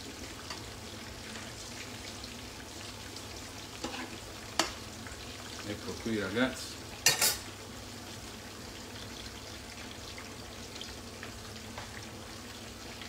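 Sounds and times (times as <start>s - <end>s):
aubergine sizzling in oil: 0.0s - 13.0s.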